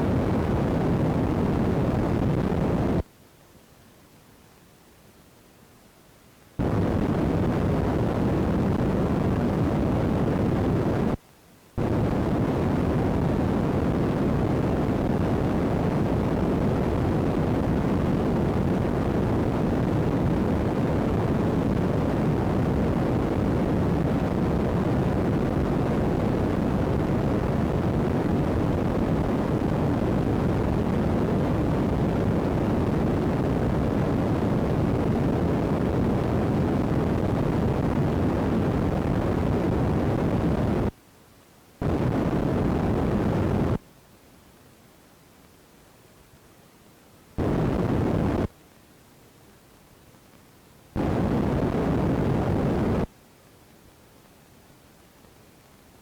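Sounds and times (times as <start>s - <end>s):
faulty microphone rushing noise: 0.0s - 56.0s.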